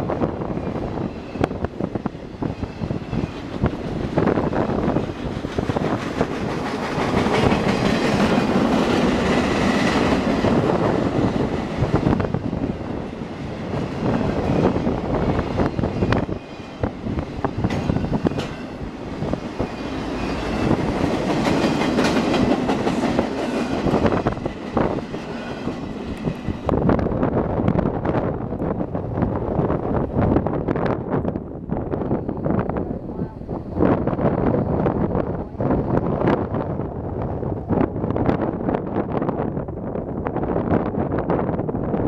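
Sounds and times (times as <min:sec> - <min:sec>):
steel wheels rumbling on rails: 0:00.0 - 0:42.0.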